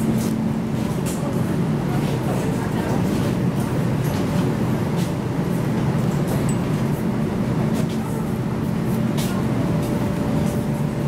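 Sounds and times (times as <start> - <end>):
train cabin rumble: 0.0 - 11.0.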